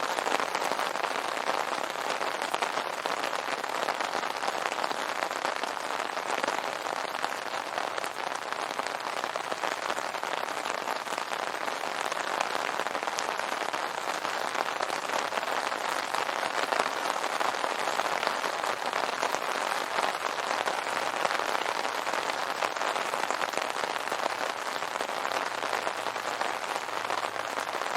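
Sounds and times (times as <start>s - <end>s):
rain pattering on umbrella: 0.0s - 27.9s.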